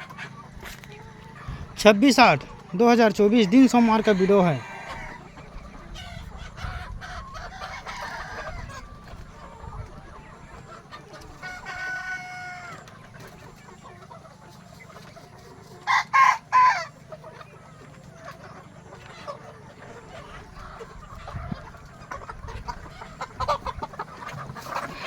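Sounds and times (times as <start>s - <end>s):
chicken calls: 0.0s - 25.0s
chickens clucking: 0.0s - 25.0s.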